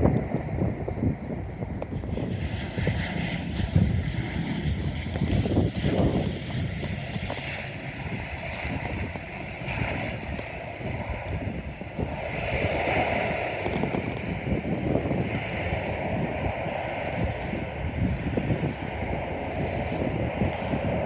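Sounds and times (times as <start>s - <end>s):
airplane engines rumbling: 0.0s - 21.0s.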